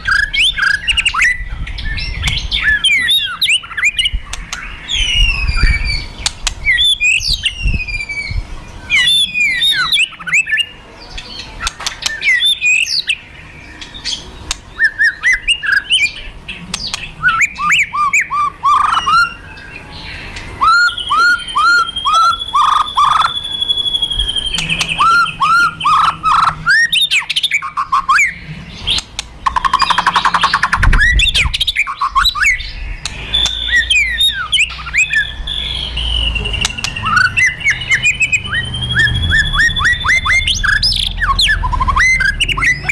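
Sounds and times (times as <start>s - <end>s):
bird whistling song: 0.0s - 42.9s.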